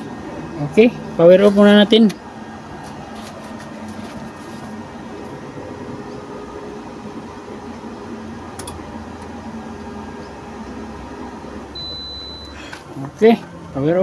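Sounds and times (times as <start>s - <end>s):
inverter humming: 0.0s - 14.0s.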